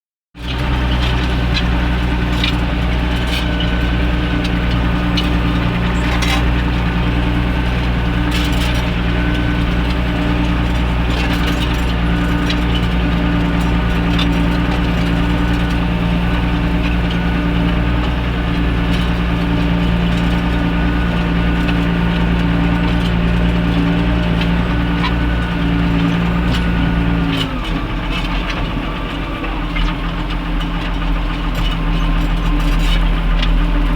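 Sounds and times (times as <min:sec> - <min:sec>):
tractor diesel engine: 0:00.4 - 0:33.9.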